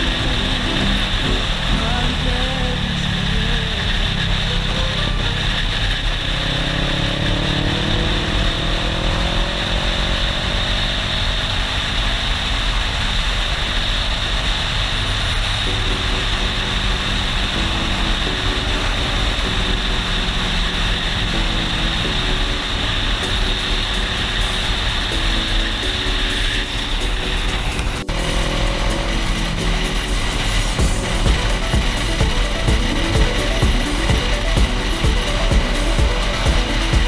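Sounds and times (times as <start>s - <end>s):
motorcycle engine: 0.0s - 37.0s.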